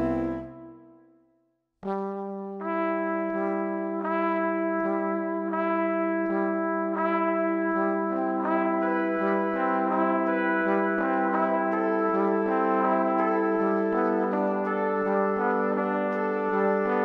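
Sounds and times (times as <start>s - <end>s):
brass background music: 0.0s - 1.0s, 1.8s - 17.0s.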